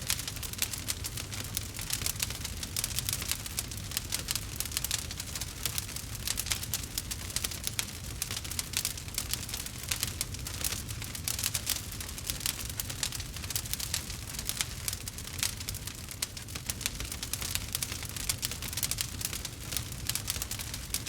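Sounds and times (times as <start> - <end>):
campfire crackling: 0.0 - 21.0
low rumble of flames: 0.0 - 21.0.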